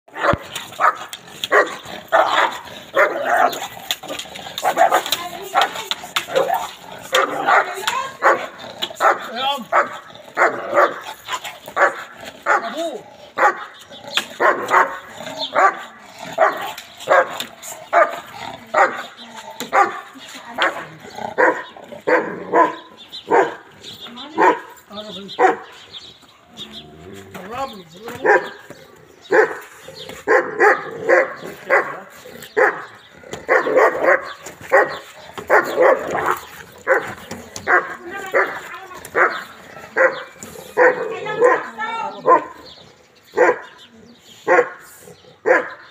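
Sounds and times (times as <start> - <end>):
dog barking fiercely: 0.1 - 25.8, 28.2 - 42.7, 43.3 - 43.8, 44.4 - 45.9.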